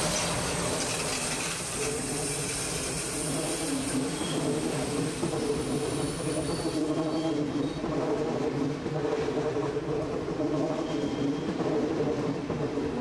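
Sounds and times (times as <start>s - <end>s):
train wheels rumbling and rattling: 0.0s - 13.0s.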